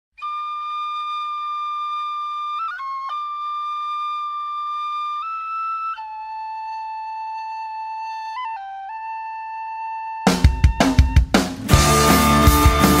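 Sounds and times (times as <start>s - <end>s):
flute playing slow melody: 0.2s - 13.0s.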